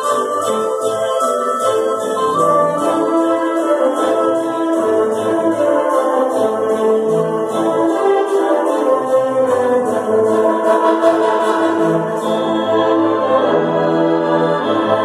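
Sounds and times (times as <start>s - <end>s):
orchestra strings and chords: 0.0s - 15.0s.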